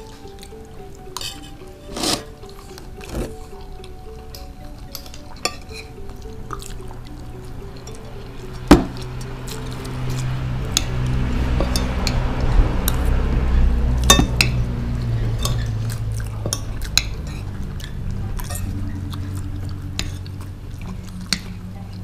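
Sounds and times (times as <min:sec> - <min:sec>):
spoons clinking on plates: 0:00.0 - 0:13.1, 0:14.0 - 0:14.6, 0:15.3 - 0:19.4
soft background music: 0:00.0 - 0:22.0.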